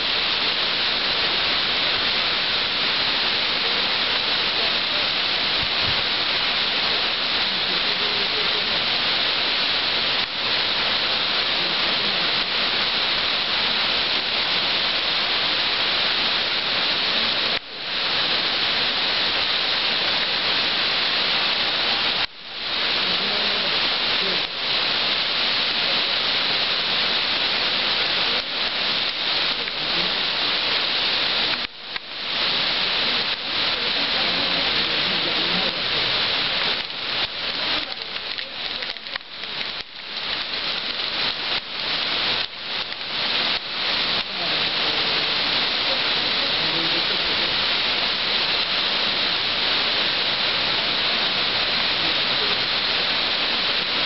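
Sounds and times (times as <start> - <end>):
heavy rain on pavement and cars: 0.0 - 54.0.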